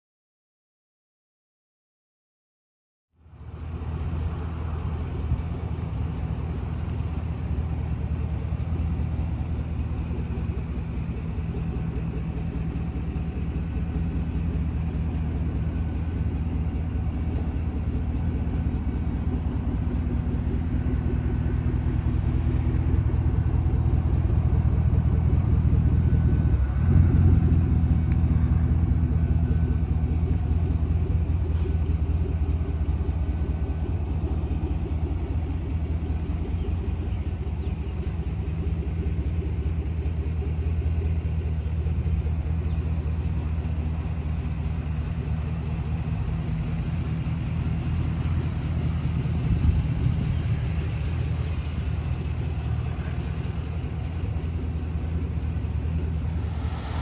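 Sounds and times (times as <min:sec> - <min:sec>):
car engine idling: 0:03.2 - 0:57.0.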